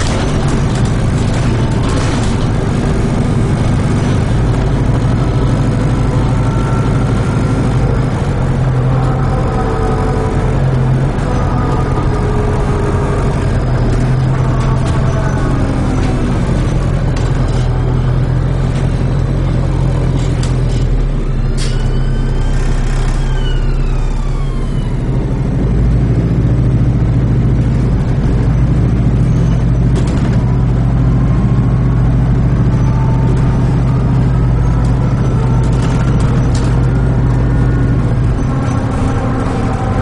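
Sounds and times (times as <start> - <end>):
sharp clicks and rattles: 0.0 - 21.8, 26.6 - 40.0
bus engine drone: 0.0 - 40.0
faint whine: 0.0 - 40.0.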